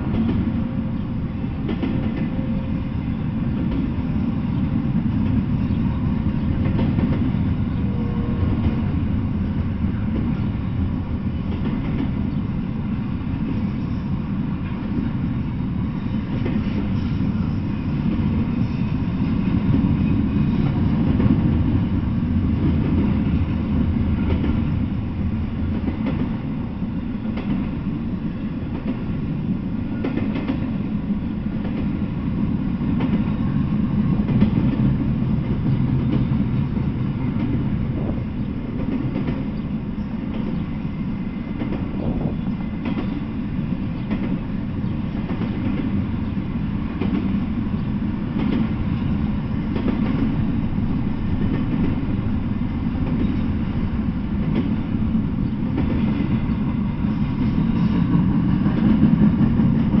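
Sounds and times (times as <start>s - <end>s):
rail clicks: 0.0s - 60.0s
train wheels rumbling on rail: 0.0s - 60.0s.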